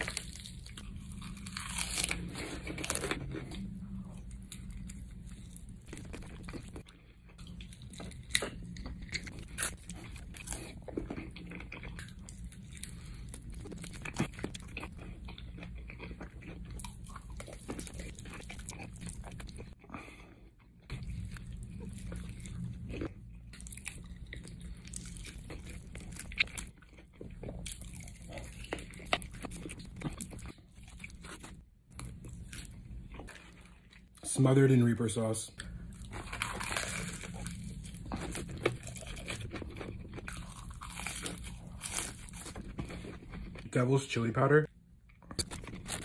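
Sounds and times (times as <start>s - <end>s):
crunching fried food: 0.0s - 20.2s, 20.8s - 34.2s, 35.6s - 44.0s, 45.1s - 46.0s
steady low hum: 0.0s - 46.0s.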